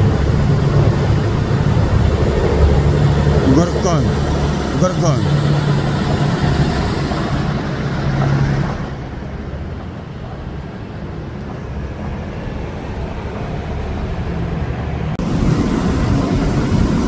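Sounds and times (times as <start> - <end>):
engine hum: 0.0 - 17.0
vehicle rumble on street: 0.0 - 17.0.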